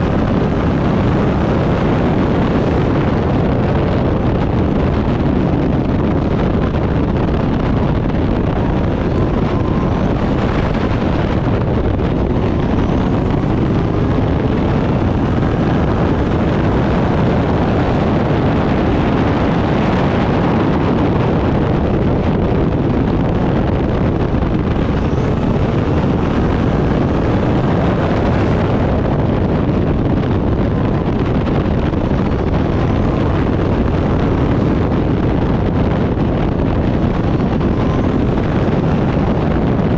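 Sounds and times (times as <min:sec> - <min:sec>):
race car engine running: 0:00.0 - 0:39.9
wind noise on microphone: 0:00.0 - 0:39.9.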